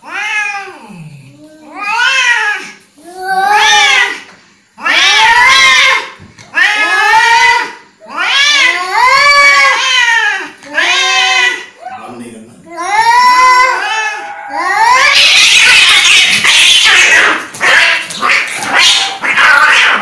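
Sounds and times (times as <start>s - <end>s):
cats yowling angrily: 0.0s - 1.0s, 1.7s - 20.0s.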